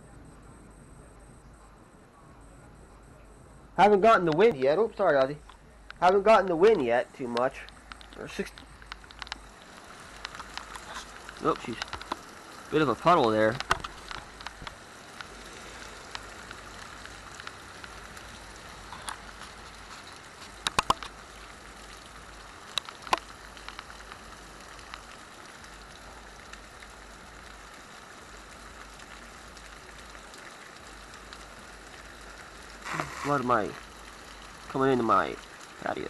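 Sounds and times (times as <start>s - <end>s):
sharp drips: 2.3s - 36.0s
heavy rain pouring: 3.7s - 36.0s.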